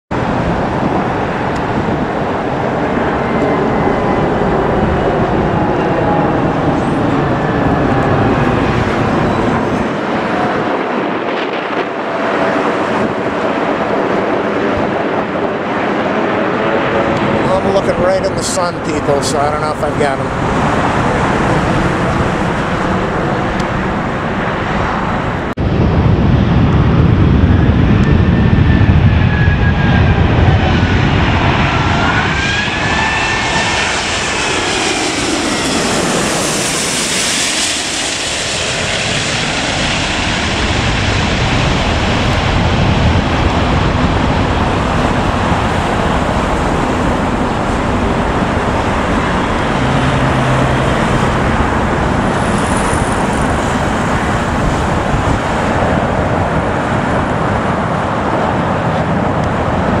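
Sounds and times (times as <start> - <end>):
jet engines roaring overhead: 0.1 - 60.0.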